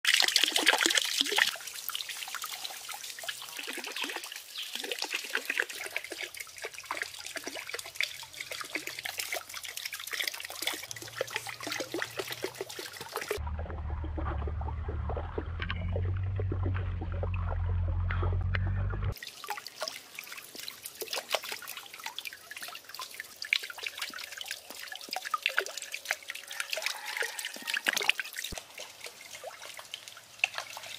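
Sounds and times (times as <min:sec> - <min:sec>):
water trickling and splashing: 0:00.0 - 0:18.5, 0:19.1 - 0:30.9.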